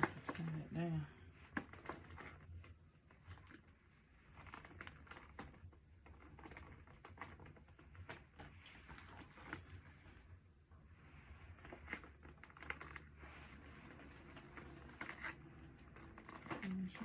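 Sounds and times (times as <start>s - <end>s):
light rustling of small items: 0.0s - 17.0s.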